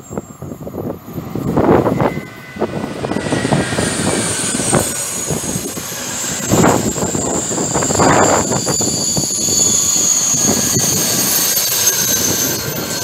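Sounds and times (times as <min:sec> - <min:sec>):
high-speed train passing: 0:00.0 - 0:13.0
wheels squealing on curve: 0:01.6 - 0:13.0.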